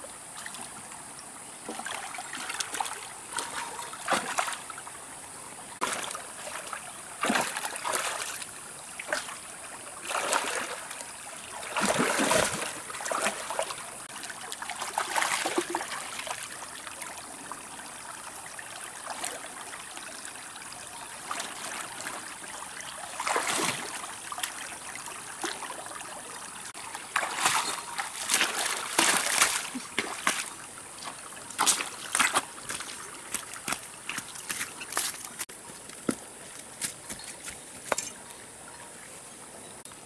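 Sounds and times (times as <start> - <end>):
water splashes: 0.0 - 5.0, 5.7 - 36.1
stream water trickling: 0.0 - 40.0.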